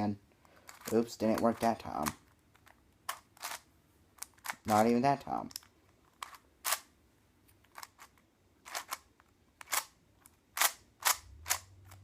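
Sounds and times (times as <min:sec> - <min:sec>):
puzzle cube layers clicking: 0:00.6 - 0:06.9, 0:07.7 - 0:12.0.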